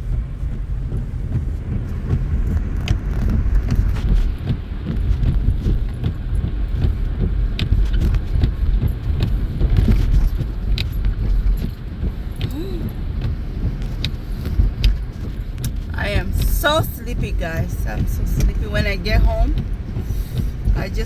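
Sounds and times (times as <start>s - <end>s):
car tyre and engine rumble: 0.0s - 21.0s.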